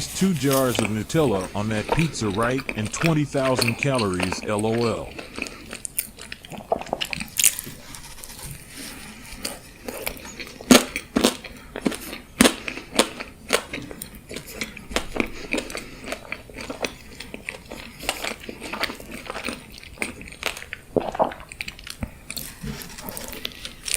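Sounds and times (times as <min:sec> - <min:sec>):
crisp bites and chewing: 0:00.0 - 0:23.9.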